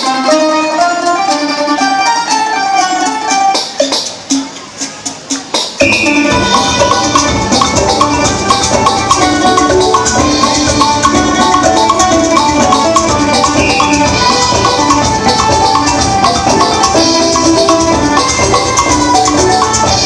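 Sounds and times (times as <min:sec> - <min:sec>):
lively christmas carol music: 0:00.0 - 0:20.0
rattling percussion beat: 0:00.0 - 0:20.0.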